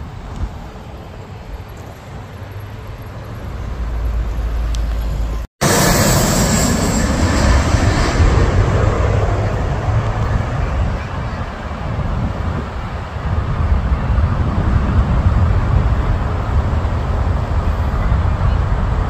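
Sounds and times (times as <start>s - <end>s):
jet passing low overhead: 0.7s - 19.0s.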